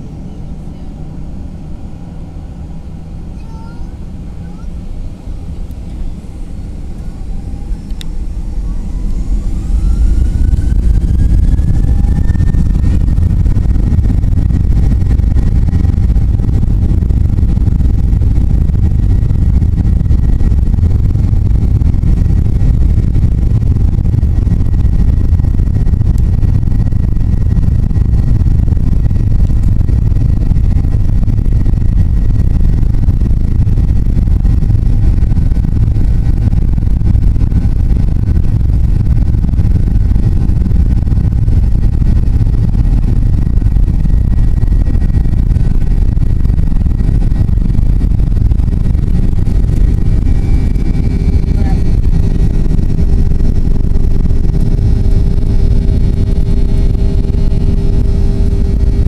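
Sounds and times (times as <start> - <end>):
faint steady whine: 0.0 - 59.0
jet engine low rumble: 0.0 - 59.0.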